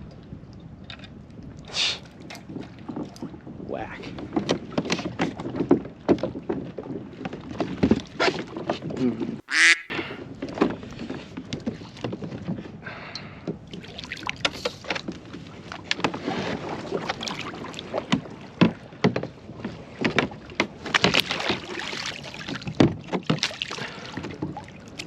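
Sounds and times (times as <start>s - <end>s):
paddle splashing water: 2.0s - 25.0s.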